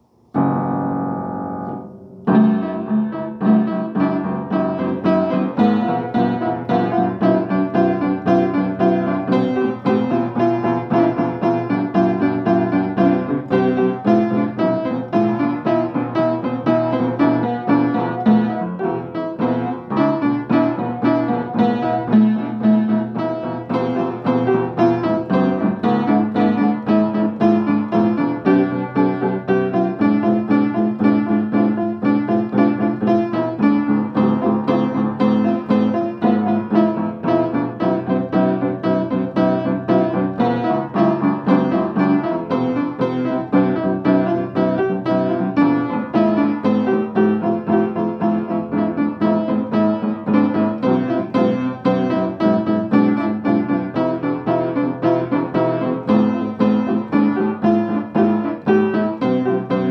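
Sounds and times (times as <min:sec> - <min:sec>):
piano notes and chords: 0:00.0 - 0:59.9.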